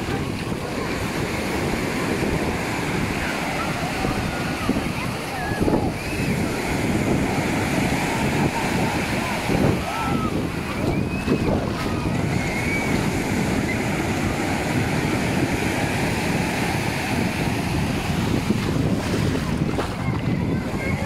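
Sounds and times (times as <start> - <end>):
waves washing up shore: 0.0 - 21.0
wind buffeting microphone: 0.0 - 21.0.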